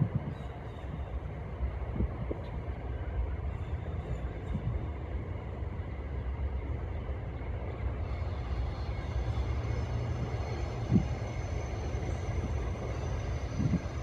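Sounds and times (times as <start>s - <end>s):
distant train rumble: 0.0s - 14.0s.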